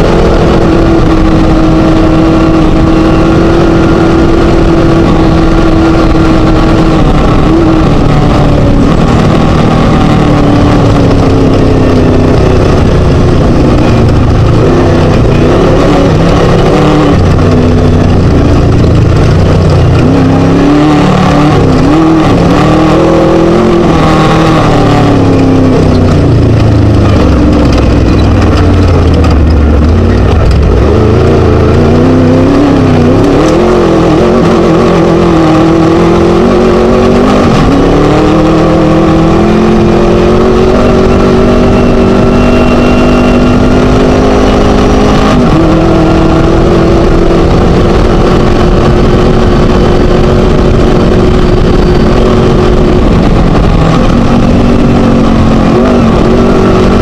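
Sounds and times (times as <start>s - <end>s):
race buggy engine revving: 0.0s - 57.0s.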